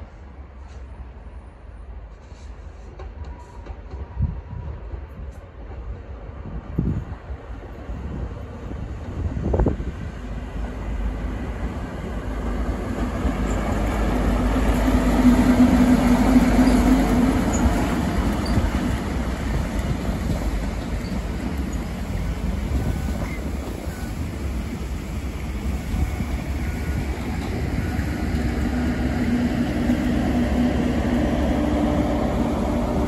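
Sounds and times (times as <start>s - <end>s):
diesel locomotive engine droning: 0.0s - 33.0s
train wheels rumbling on rails: 0.0s - 33.0s.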